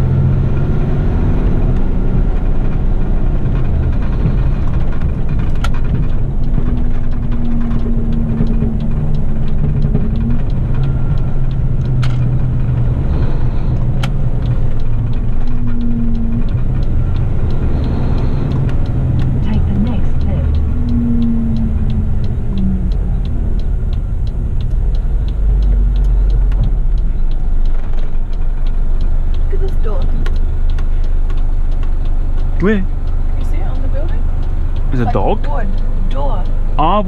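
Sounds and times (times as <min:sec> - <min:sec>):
truck diesel engine rumble: 0:00.0 - 0:37.0
sharp clicks and rattles: 0:00.4 - 0:37.0.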